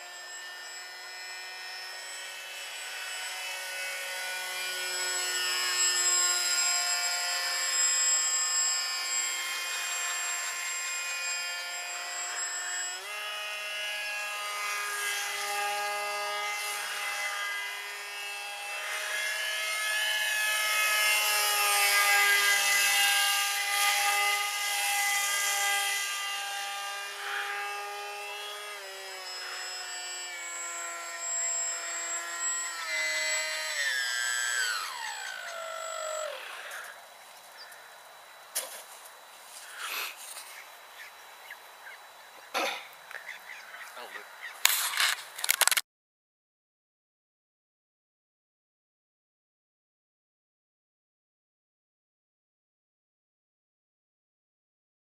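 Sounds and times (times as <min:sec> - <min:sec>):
model jet electric motor whine: 0:00.0 - 0:42.5, 0:43.1 - 0:45.8.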